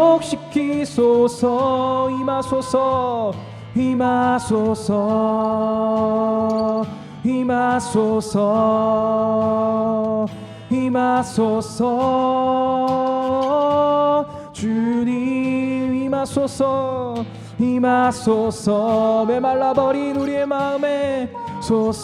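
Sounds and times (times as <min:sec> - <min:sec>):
slow worship song sung: 0:00.0 - 0:22.0.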